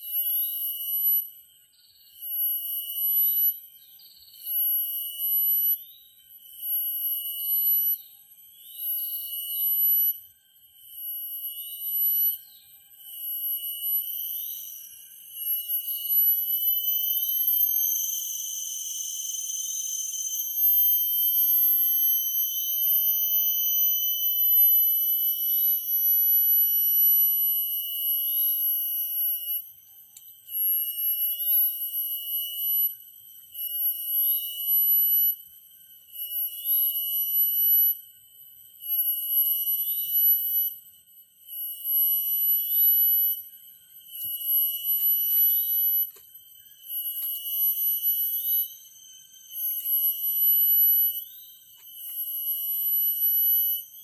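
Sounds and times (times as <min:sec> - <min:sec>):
cicadas whining: 0:00.0 - 0:54.0.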